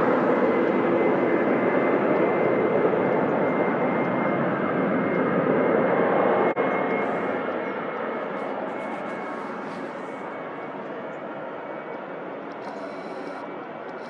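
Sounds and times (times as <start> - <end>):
jet airliner taking off: 0.0 - 14.0.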